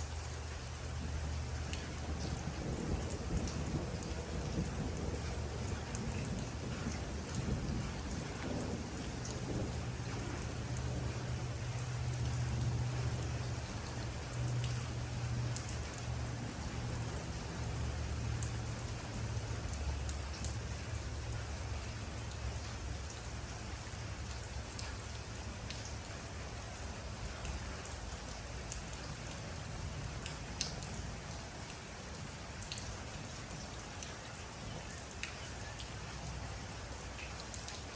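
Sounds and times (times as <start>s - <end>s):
sharp drips nearby: 0.0s - 37.9s
steady rain falling: 0.0s - 37.9s
low rumble of thunder: 0.1s - 37.9s.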